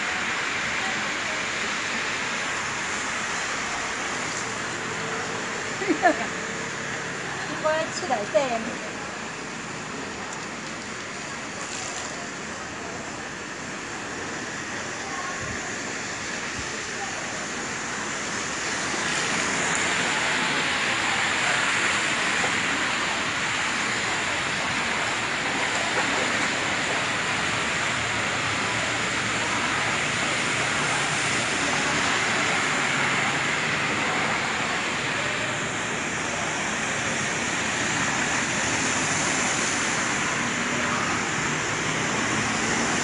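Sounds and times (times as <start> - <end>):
rain on a flooded street: 0.0 - 43.0
vehicles driving through water: 0.0 - 43.0.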